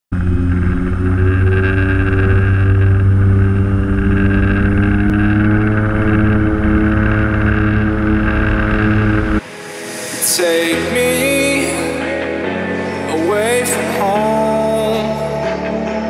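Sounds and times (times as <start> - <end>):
turboprop propeller drone: 0.1 - 14.5.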